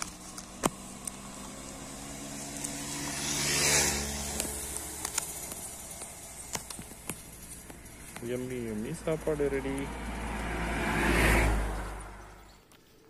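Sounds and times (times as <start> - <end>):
vehicle engine hum and tyre hiss: 0.0 - 13.0.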